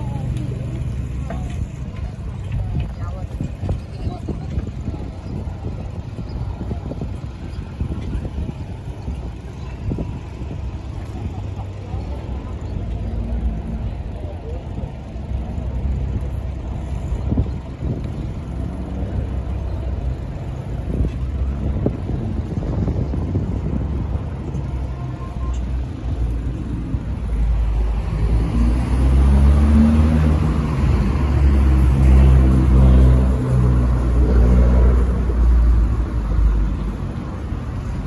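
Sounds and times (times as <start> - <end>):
car engine running close by: 0.0 - 38.0
street traffic rumble: 0.0 - 38.0.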